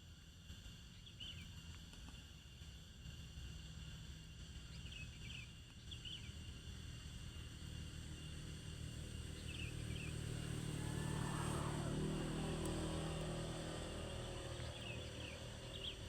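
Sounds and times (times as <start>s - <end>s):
steady low rumble: 3.0s - 16.0s.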